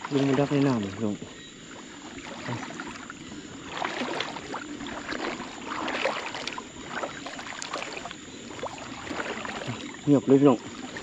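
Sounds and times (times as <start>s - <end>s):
wading through muddy water: 0.0s - 11.0s.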